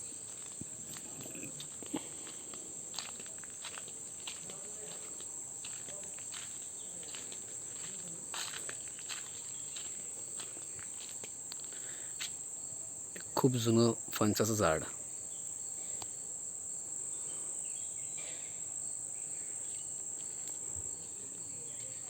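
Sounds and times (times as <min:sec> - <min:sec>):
insects shrilling: 0:00.0 - 0:22.0.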